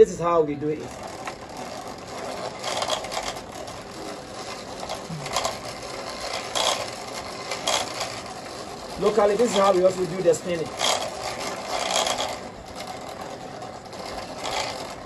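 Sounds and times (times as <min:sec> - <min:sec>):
bobbin winder whirring and rattling: 0:00.0 - 0:15.0.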